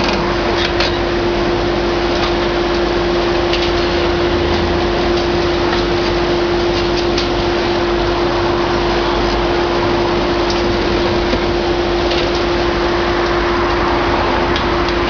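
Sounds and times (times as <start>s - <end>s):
excavator engine and hydraulics: 0.0s - 15.0s
steady whine: 0.0s - 15.0s.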